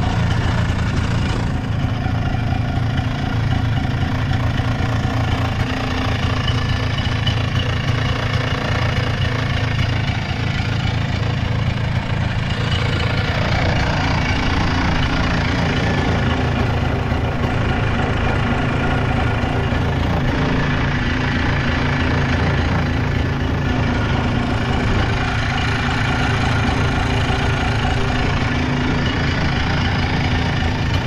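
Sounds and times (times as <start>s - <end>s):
atv engine idling: 0.0s - 31.0s.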